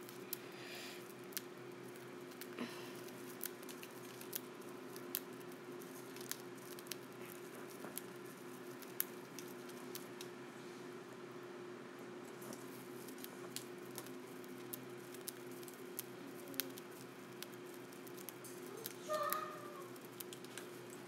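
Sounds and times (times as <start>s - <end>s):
bird beak cracking seeds: 0.0s - 10.3s, 12.4s - 21.0s
steady low hum: 0.0s - 21.0s.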